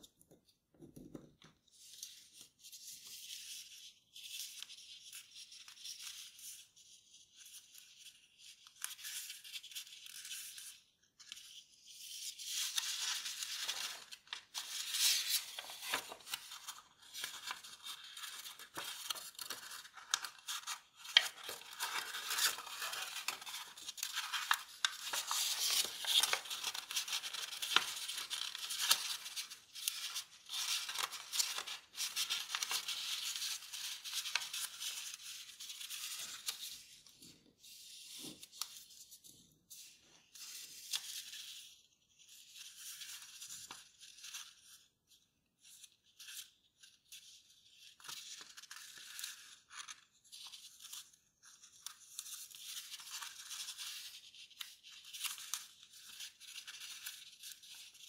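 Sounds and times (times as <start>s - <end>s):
paper rustling and crinkling: 7.4s - 44.8s, 45.6s - 58.0s.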